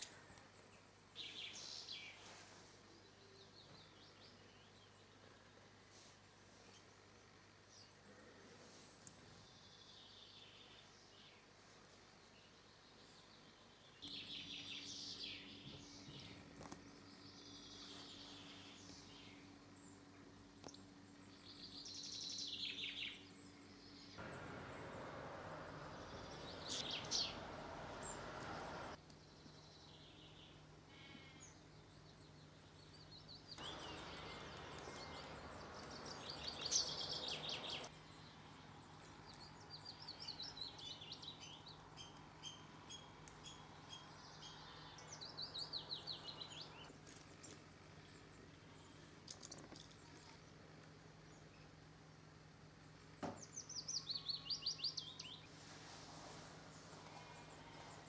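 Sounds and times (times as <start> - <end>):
songbirds singing: 0.0 - 2.3, 2.9 - 5.7, 6.6 - 55.6, 56.6 - 58.0.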